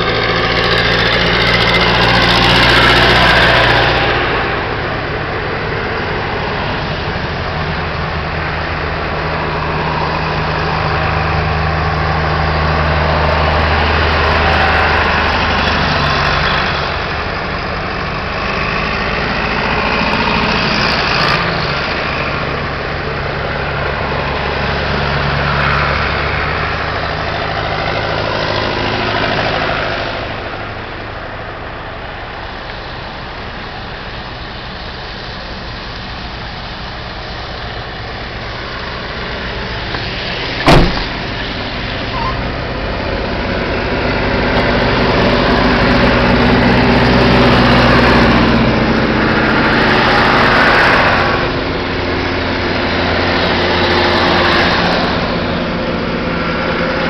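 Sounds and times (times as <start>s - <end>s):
cars passing: 0.0s - 57.0s
tractor engines passing: 0.0s - 57.0s.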